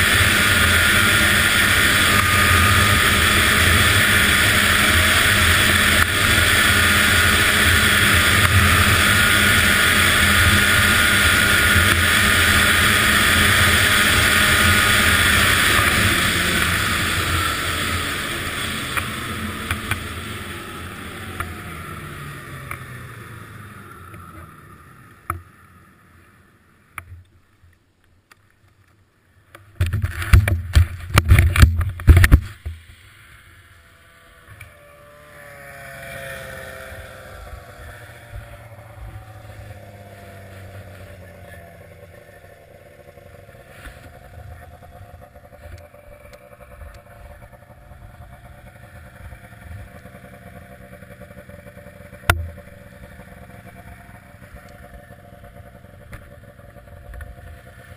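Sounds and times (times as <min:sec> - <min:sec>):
snowmobile engine running: 0:00.0 - 0:26.8, 0:29.7 - 0:57.9.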